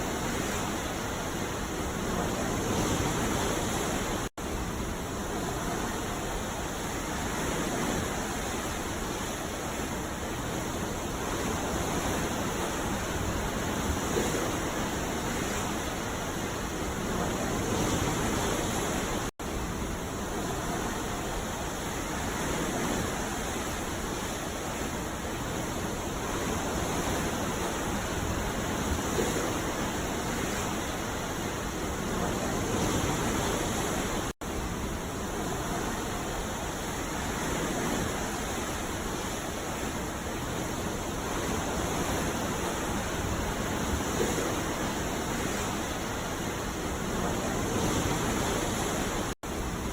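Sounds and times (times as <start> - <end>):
sea waves washing: 0.0 - 49.9.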